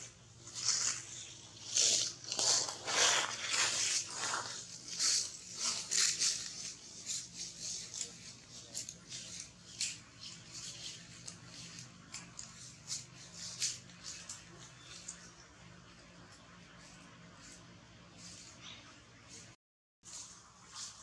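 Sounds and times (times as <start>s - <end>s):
leaves and twigs rustling: 0.0s - 21.0s.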